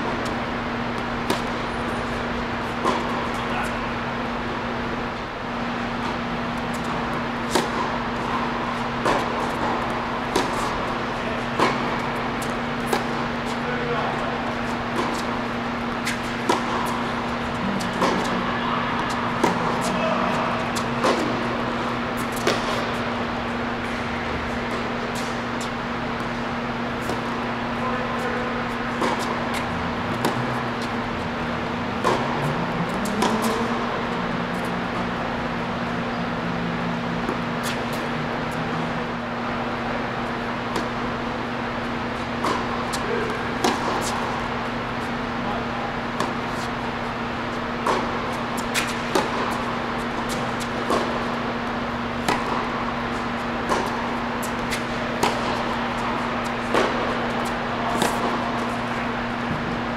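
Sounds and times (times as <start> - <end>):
steady low hum: 0.0 - 59.9
tennis racquets hitting ball: 0.0 - 59.9.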